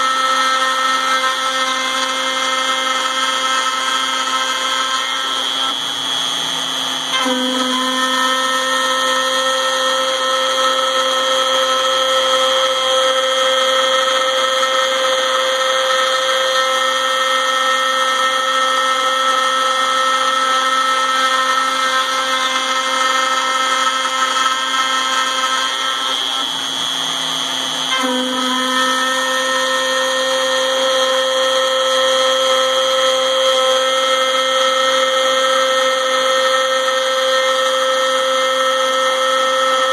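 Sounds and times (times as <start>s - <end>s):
high-pitched motor whine: 0.0s - 39.9s.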